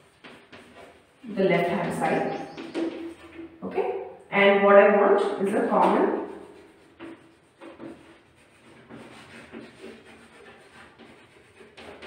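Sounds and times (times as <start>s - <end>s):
chalk scratching on blackboard: 0.0s - 3.4s, 5.2s - 12.0s.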